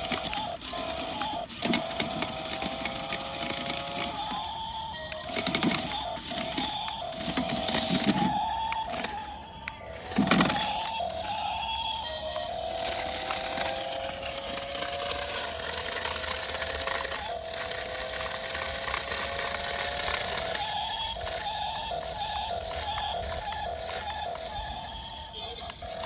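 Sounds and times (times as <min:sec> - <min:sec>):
toy car electric motor whining: 0:00.0 - 0:26.0.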